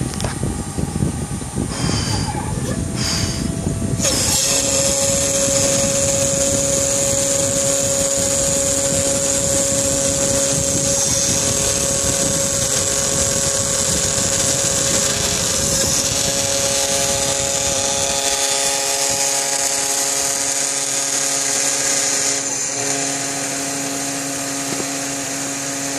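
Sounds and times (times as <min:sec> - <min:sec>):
router spindle whining: 0:00.0 - 0:25.9
rough plastic cutting noise: 0:01.7 - 0:25.9.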